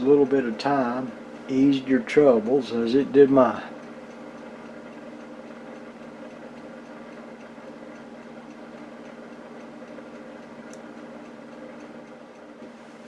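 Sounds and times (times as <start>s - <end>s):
timer ticking: 0.0s - 12.6s
toaster oven humming: 0.0s - 13.0s.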